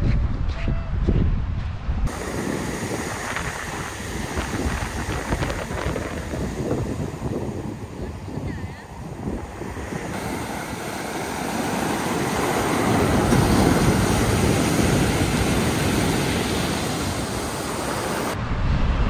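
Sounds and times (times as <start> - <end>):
waves breaking on a pebble beach: 2.1 - 18.4.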